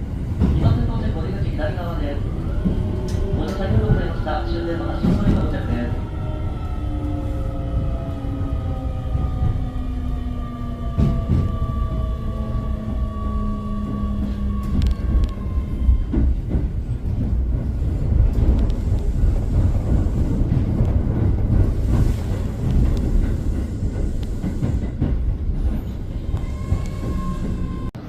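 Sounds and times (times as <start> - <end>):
rumble of wheels and track: 0.0 - 28.0.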